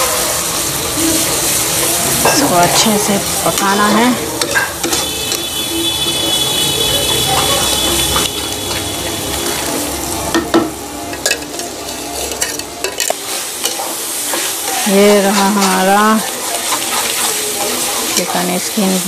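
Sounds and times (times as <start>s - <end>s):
food sizzling in a pan: 0.0s - 19.0s
spatula scraping a pan: 2.2s - 9.8s, 11.3s - 19.0s.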